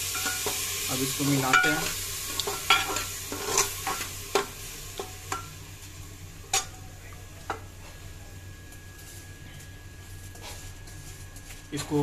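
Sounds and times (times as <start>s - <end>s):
butter sizzling: 0.0s - 12.0s.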